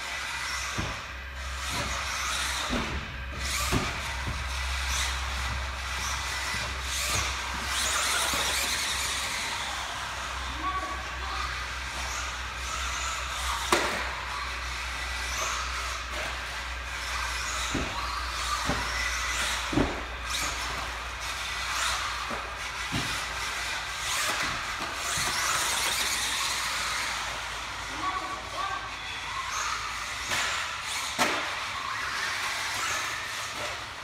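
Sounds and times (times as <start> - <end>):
electric motor whine: 0.0 - 30.0.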